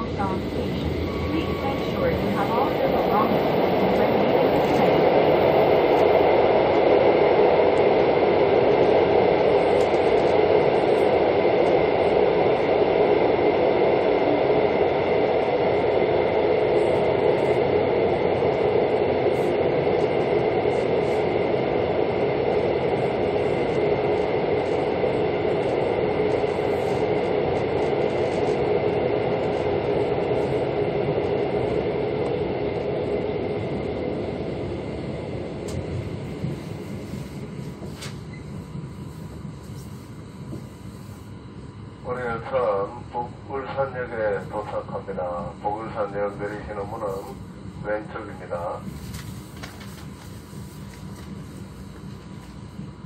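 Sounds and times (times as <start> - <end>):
train rumble and wheel noise: 0.0 - 53.0.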